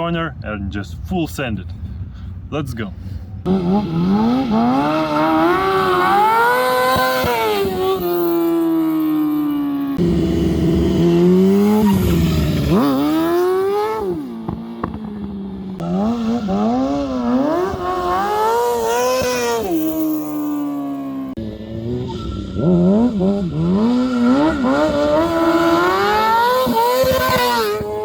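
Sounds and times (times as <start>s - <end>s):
motorcycle engine revving: 3.4s - 28.0s.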